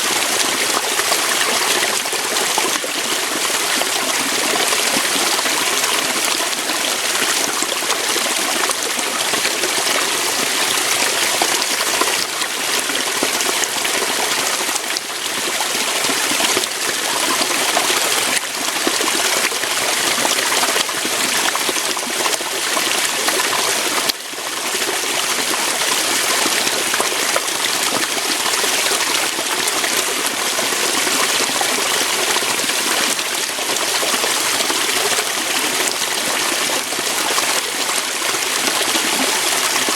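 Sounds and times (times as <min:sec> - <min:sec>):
waterfall over rocks: 0:00.0 - 0:39.9.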